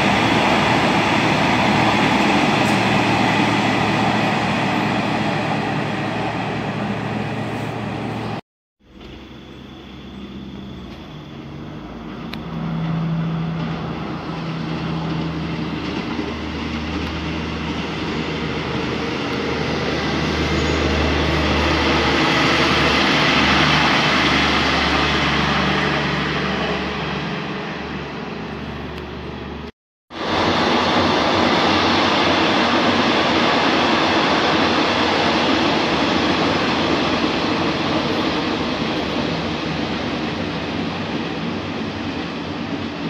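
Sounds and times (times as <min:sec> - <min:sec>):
train rumbling at speed: 0:00.0 - 0:43.0.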